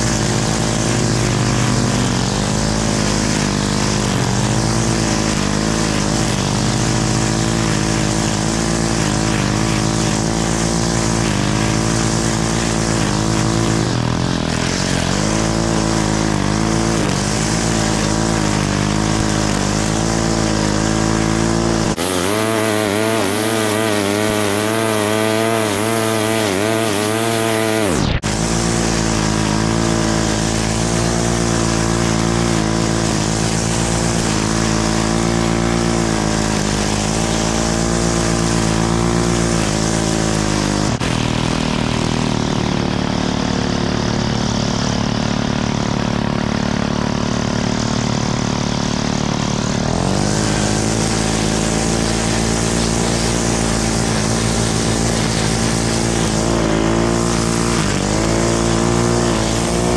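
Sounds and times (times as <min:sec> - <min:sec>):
string trimmer cutting grass: 0:00.0 - 0:59.9.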